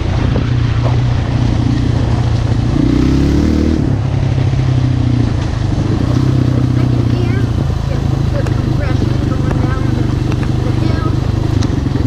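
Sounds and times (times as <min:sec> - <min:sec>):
quad engine running: 0:00.0 - 0:12.0
tyres on gravel trail: 0:00.0 - 0:12.0.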